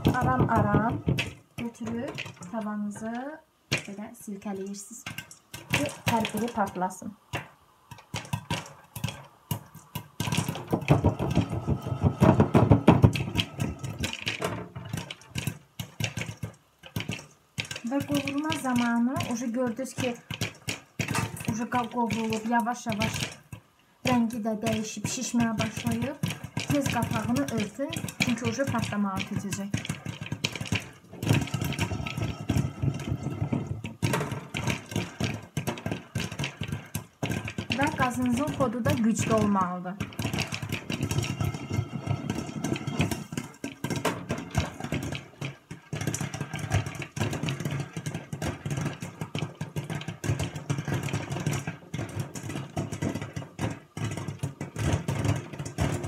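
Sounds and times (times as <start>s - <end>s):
popcorn popping: 0.0s - 56.0s
popcorn rattling in shaken pan: 0.0s - 56.0s.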